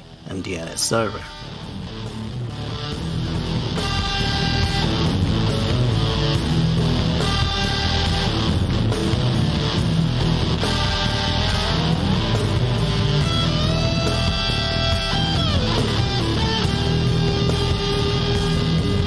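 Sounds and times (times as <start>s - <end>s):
blues-rock guitar music: 0.0s - 19.0s.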